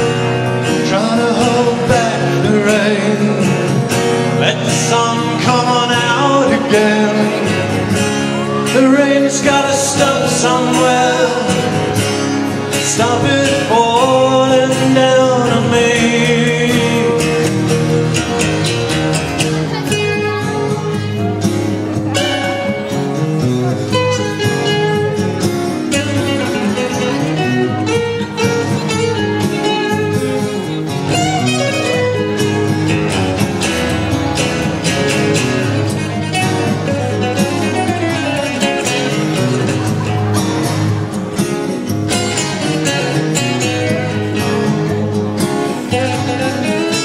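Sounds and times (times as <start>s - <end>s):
acoustic guitars playing: 0.0s - 47.0s.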